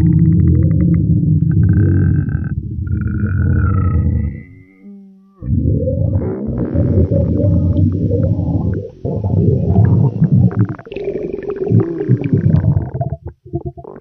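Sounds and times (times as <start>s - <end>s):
stomach gurgling: 0.0s - 14.0s.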